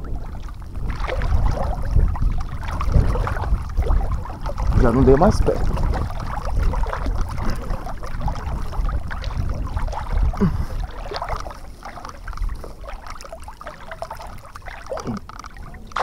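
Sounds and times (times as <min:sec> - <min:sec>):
water splashing and sloshing: 0:00.0 - 0:16.0
wind on microphone: 0:00.0 - 0:16.0.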